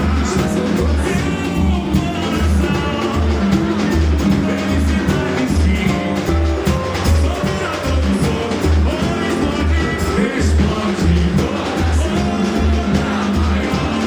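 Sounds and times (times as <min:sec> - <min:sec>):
band playing samba: 0:00.0 - 0:14.0
steady low beat: 0:00.0 - 0:14.0
voices singing: 0:00.0 - 0:14.0.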